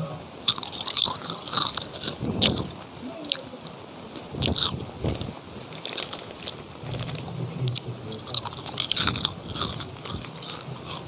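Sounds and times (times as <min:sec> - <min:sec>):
person chewing crunchy crackers: 0:00.4 - 0:11.0.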